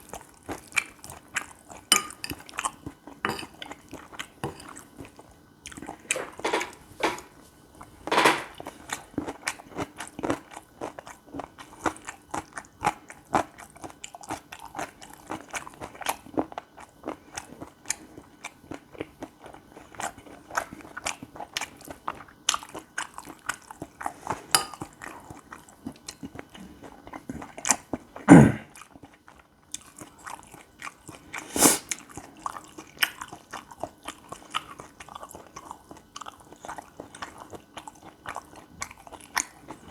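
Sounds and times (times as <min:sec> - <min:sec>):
close-miked chewing: 0:00.0 - 0:06.4, 0:07.3 - 0:39.9.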